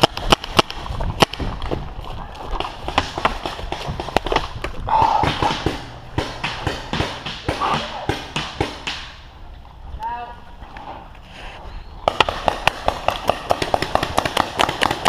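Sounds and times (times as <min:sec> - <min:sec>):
running footsteps: 0:00.0 - 0:09.7, 0:12.1 - 0:15.0.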